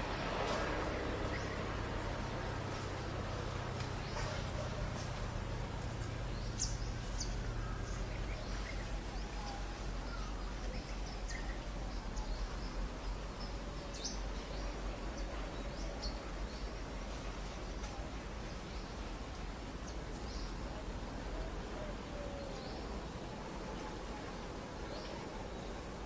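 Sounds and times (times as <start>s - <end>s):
low background rumble: 0.0s - 26.0s.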